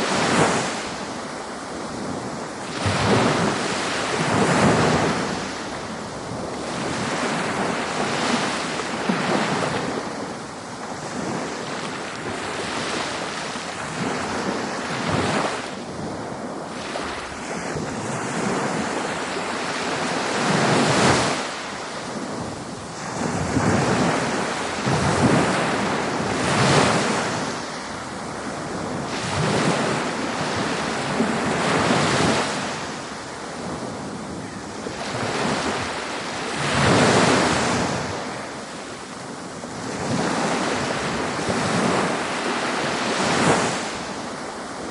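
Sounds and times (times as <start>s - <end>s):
ocean waves breaking on beach: 0.0s - 44.9s.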